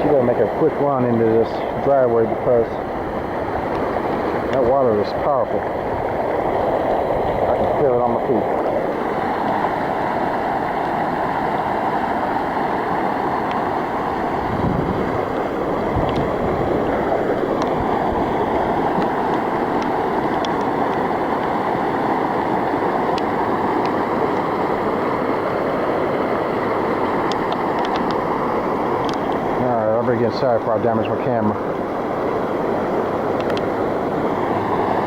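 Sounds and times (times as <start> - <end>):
floodwater rushing: 0.0 - 35.0.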